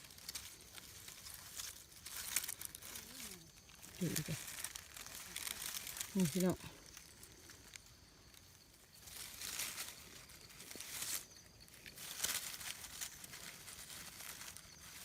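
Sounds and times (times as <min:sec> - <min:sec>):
dry leaves rustling and crunching: 0:00.0 - 0:15.0.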